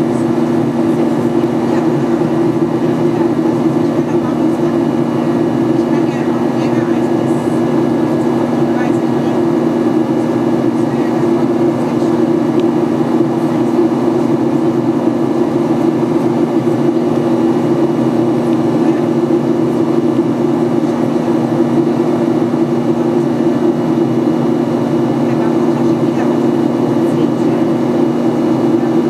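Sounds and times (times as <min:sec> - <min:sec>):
airplane cabin drone: 0:00.0 - 0:29.0.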